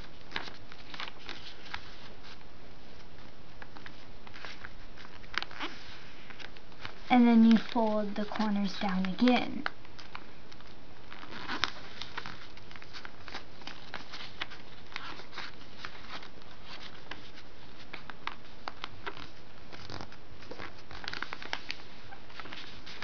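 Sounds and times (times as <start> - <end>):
paper rustling and creasing: 0.0 - 23.0
steady background hiss: 0.0 - 23.0.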